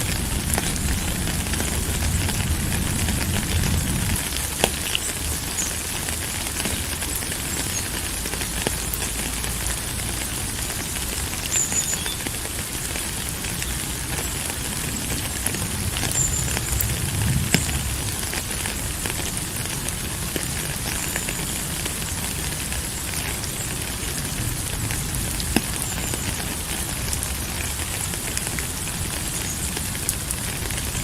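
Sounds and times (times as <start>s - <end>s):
sharp raindrop ticks: 0.0s - 31.0s
steady rain hiss: 0.0s - 31.0s.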